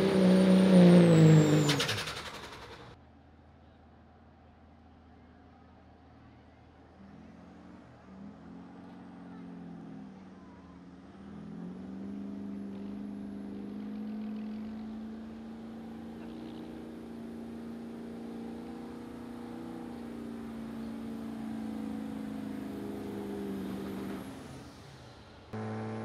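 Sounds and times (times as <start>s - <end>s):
truck engine at high revs: 0.0s - 3.0s, 7.1s - 26.0s.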